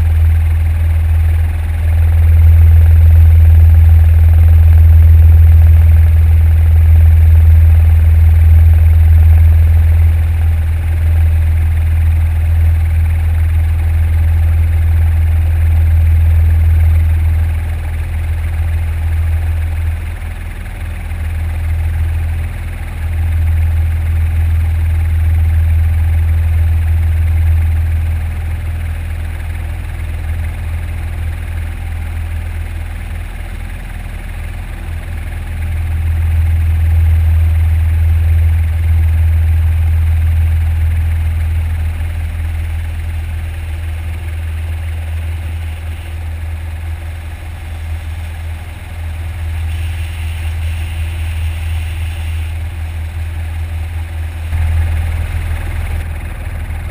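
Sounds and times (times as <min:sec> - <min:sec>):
helicopter rotor and turbine drone: 0:00.0 - 0:56.9.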